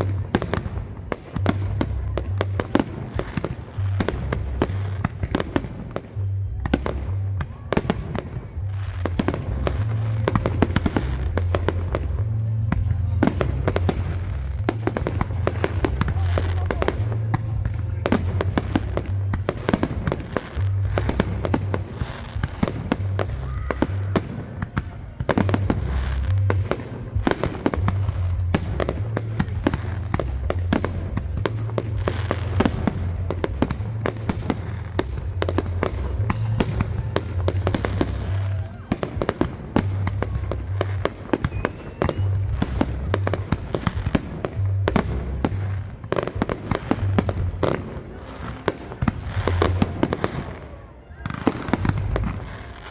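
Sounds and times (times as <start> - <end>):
steady low rumble: 0.0 - 48.2
fireworks bangs and crackles: 0.0 - 52.9.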